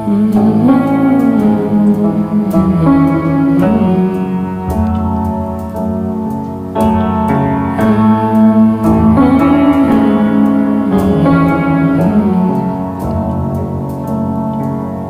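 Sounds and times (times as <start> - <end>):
pop music with piano chords: 0.0 - 15.0.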